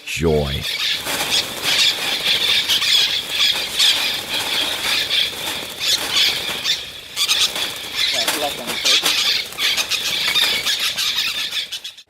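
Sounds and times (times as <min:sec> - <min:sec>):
parrots squawking: 0:00.6 - 0:12.0.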